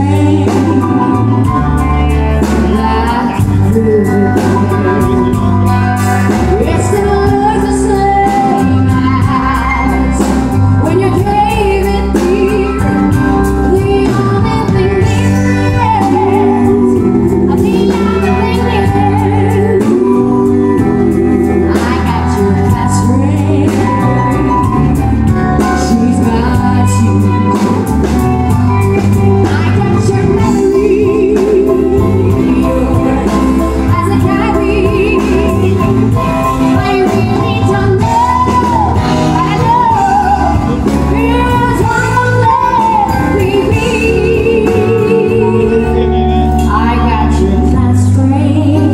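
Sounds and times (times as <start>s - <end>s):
keyboard and band accompaniment: 0.0s - 48.9s
woman singing into microphone: 0.0s - 48.9s.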